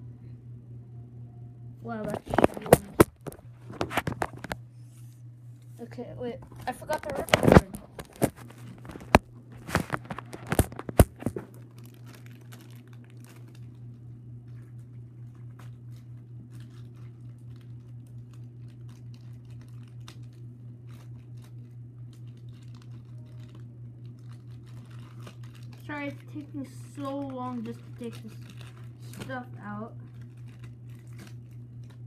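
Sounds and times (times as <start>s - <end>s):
steady low hum: 0.0s - 32.0s
plastic packaging crinkling: 1.9s - 4.6s, 6.4s - 32.0s.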